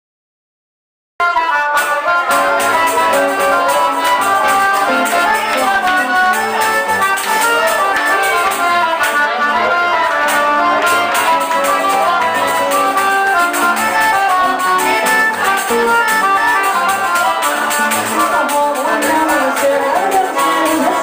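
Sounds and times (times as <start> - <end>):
accordion melody: 1.2 - 21.0
guitar: 1.2 - 21.0
hand percussion: 1.8 - 9.4, 10.2 - 21.0.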